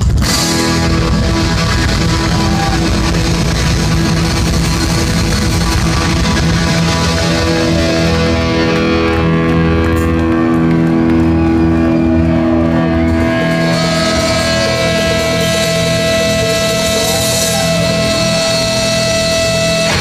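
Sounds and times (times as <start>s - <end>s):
sustained electric guitar and bass: 0.0s - 20.0s.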